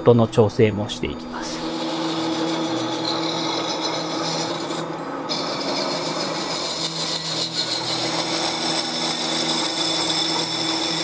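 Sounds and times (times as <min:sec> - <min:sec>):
lathe machine low hum: 0:00.0 - 0:11.0
cutting tool shaving metal: 0:01.2 - 0:11.0.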